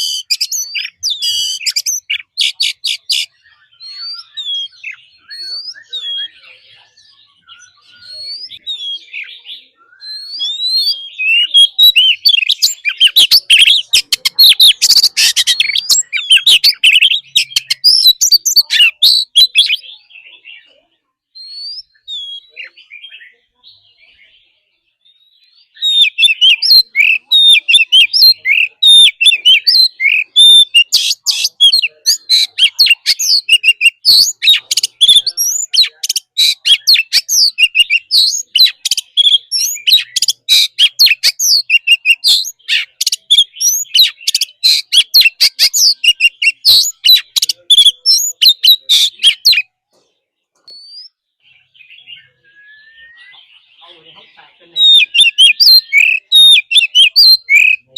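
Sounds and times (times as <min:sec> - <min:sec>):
bird singing varied whistles: 0:00.0 - 0:19.9, 0:21.4 - 0:24.0, 0:25.6 - 0:49.7, 0:50.6 - 0:51.2, 0:51.8 - 0:54.0, 0:54.8 - 0:57.9.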